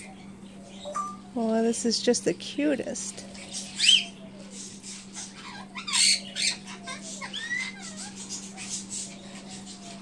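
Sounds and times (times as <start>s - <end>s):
parrotlets chirping and squawking: 0.0s - 1.4s, 2.9s - 10.0s.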